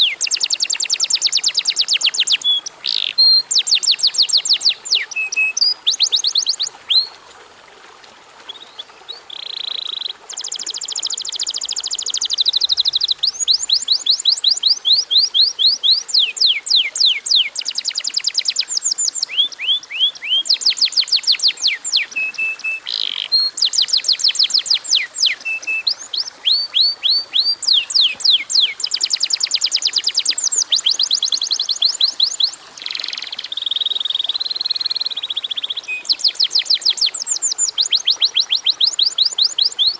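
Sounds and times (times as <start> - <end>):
canary singing trills: 0.0 - 7.2, 8.5 - 39.9.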